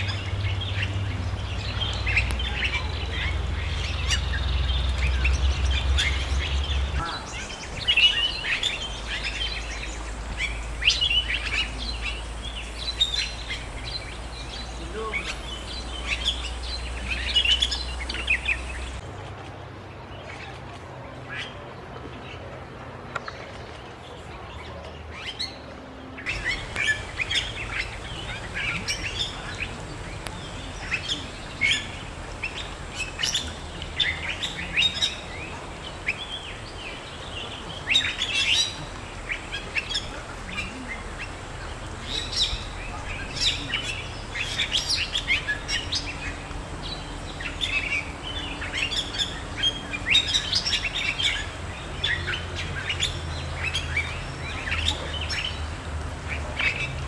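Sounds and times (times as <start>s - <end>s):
birds chirping and whistling: 0.0s - 19.0s, 26.2s - 55.7s.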